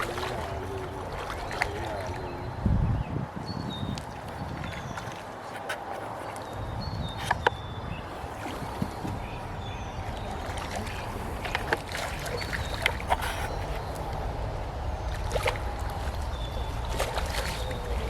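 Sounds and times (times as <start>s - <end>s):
rumble of moving water: 0.0s - 18.0s
wind on microphone: 0.0s - 18.0s.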